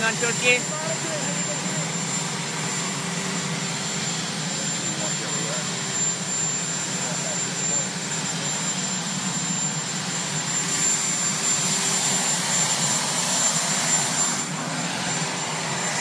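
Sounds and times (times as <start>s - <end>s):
engine and rotor rush: 0.0s - 16.0s
helicopter turbine whine: 0.0s - 16.0s.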